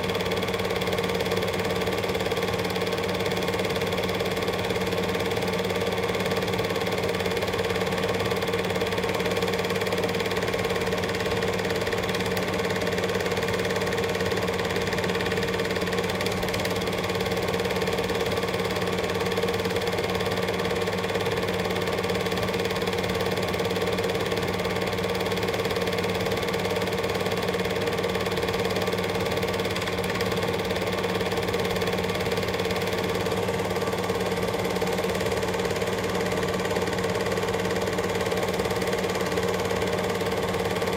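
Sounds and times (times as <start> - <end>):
film projector clatter: 0.0 - 40.9.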